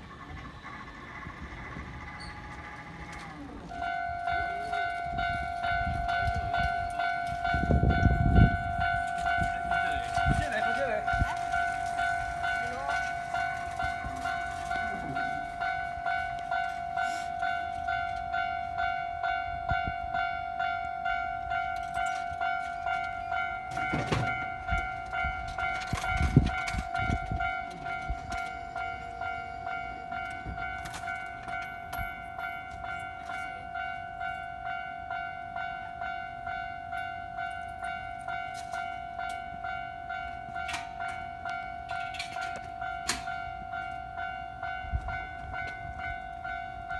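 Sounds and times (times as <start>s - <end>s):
train rumbling past: 0.0s - 46.9s
level crossing bell dinging: 3.7s - 46.9s.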